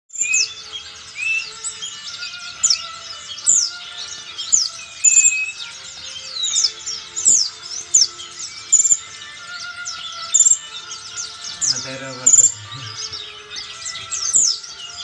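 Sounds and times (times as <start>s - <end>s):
downward-sweeping bird notes: 0.1s - 15.0s
songbird singing: 0.1s - 15.0s.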